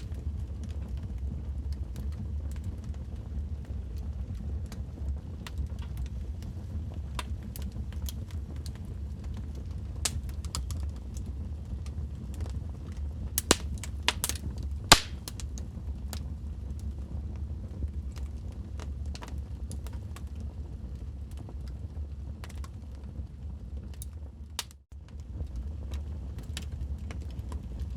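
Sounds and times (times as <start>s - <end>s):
logs crackling and popping: 0.0s - 27.9s
low roar of flames: 0.0s - 27.9s.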